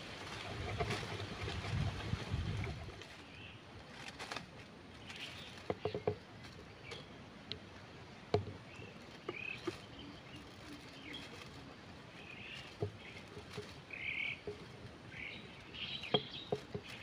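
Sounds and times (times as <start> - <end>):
dry fronds and sticks crackling: 0.0 - 17.0.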